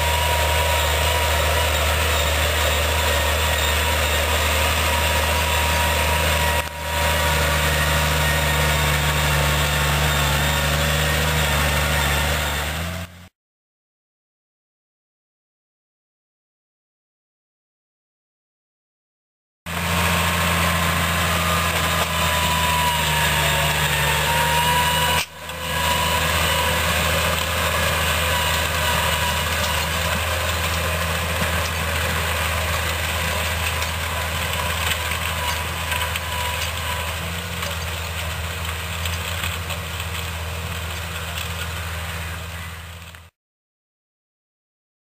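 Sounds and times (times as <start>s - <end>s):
tractor diesel engine running: 0.0s - 13.3s, 19.7s - 43.3s.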